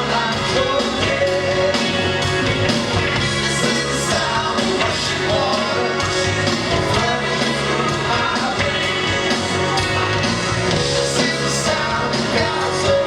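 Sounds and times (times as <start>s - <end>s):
bass line: 0.0s - 13.0s
live rock band playing: 0.0s - 13.0s.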